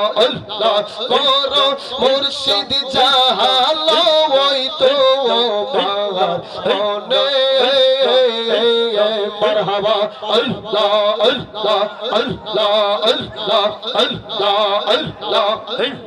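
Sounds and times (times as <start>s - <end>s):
man singing devotional song: 0.0s - 16.0s.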